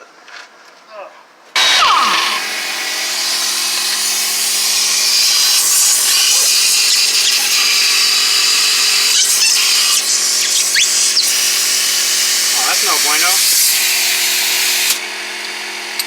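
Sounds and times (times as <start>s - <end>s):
power tool whirring: 1.6s - 16.0s.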